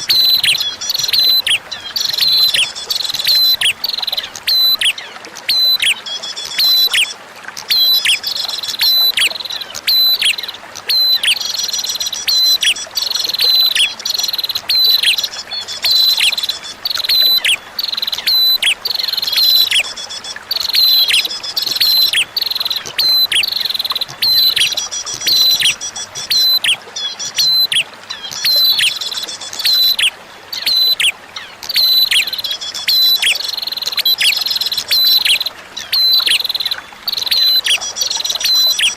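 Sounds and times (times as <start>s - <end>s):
bird song of sharp calls: 0.0s - 38.9s.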